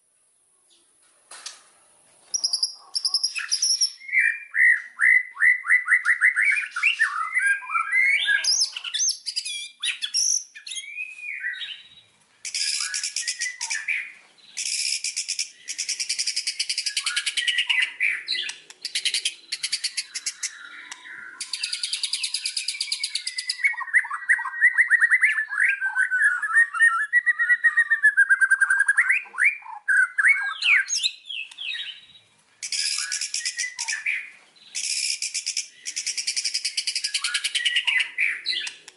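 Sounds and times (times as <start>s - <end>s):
bird whistling song: 2.3s - 38.9s.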